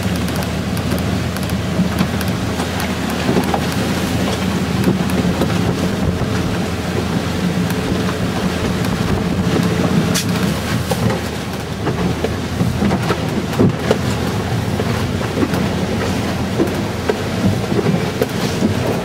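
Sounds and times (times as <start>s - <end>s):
water and wind rushing along hull: 0.0s - 19.0s.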